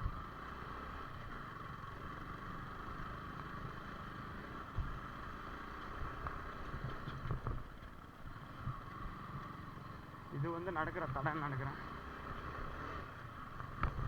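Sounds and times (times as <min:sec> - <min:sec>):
motorcycle engine riding: 0:00.0 - 0:14.0.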